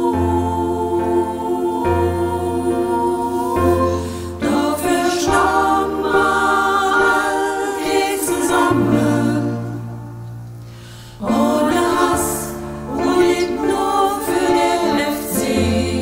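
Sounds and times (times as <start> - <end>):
women's choir singing: 0.0 - 10.2, 11.2 - 16.0.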